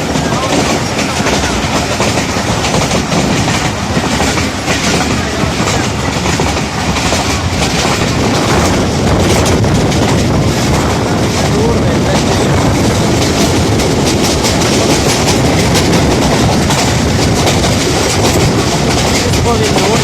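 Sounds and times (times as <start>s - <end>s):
train rumbling on rails: 0.0s - 20.0s
wheels clattering over track: 0.0s - 20.0s.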